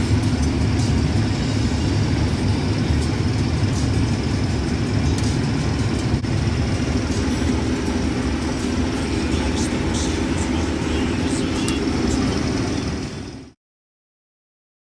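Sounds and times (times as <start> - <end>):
combine engine and machinery drone: 0.0 - 13.6
faint high whine: 1.6 - 13.6.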